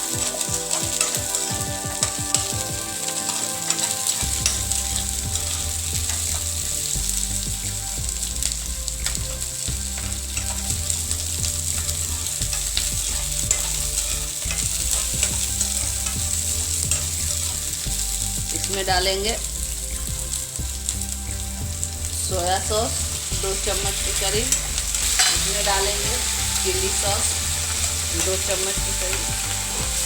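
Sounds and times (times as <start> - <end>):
spatula scraping a pan: 0.0 - 18.2, 22.6 - 30.0
vegetables sizzling in hot oil: 0.0 - 30.0.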